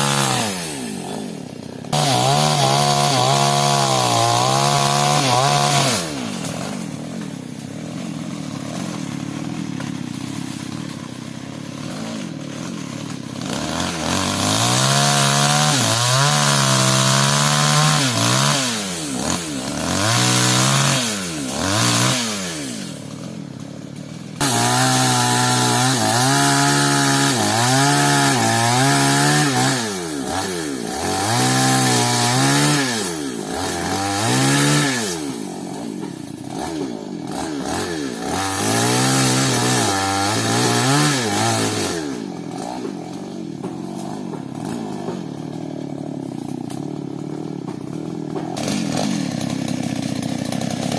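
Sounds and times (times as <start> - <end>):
chainsaw revving and cutting wood: 0.0 - 50.9.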